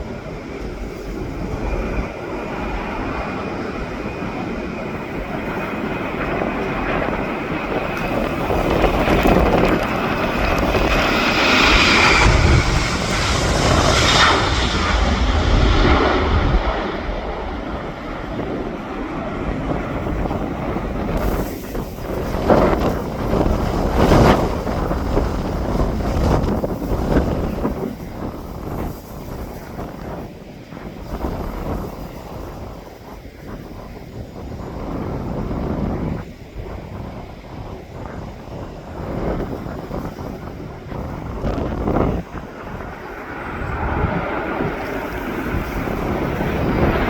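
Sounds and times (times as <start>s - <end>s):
passenger aircraft engines roaring: 0.0s - 47.0s
wind buffeting microphone: 0.0s - 47.0s.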